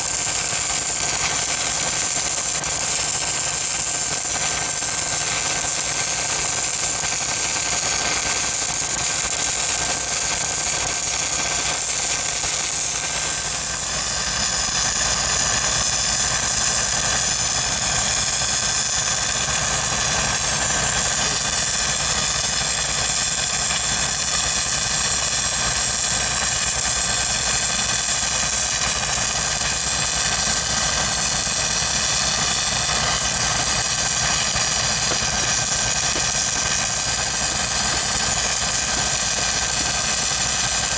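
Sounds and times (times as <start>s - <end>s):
welding machine engine running: 0.0s - 40.9s.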